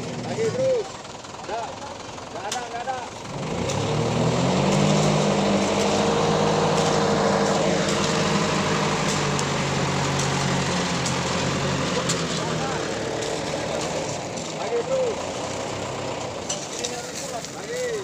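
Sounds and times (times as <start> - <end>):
dump truck engine running: 0.0 - 18.0.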